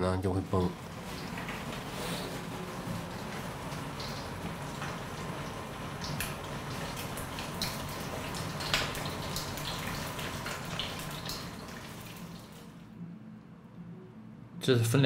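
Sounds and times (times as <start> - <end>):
ribs deep-frying in hot oil: 0.5 - 12.8.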